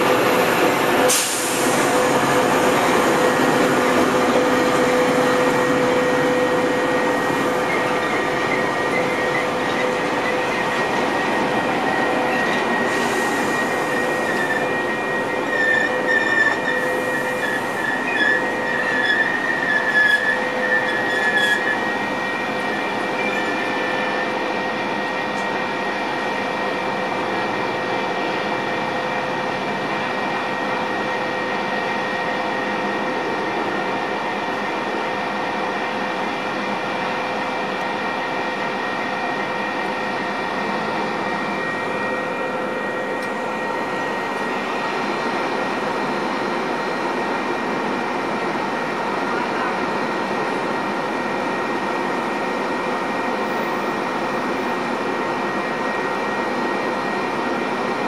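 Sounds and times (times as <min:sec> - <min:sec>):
train mechanical hum: 0:00.0 - 0:58.0.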